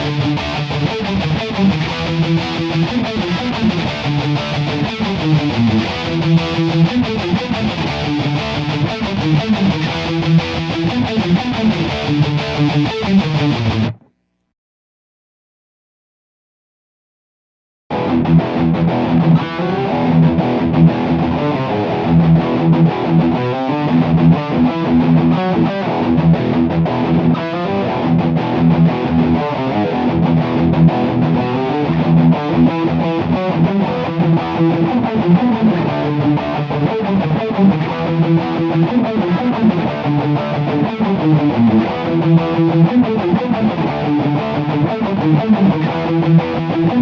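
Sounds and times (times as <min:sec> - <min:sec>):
distorted electric guitar riff: 0:00.0 - 0:14.5, 0:17.9 - 0:47.0.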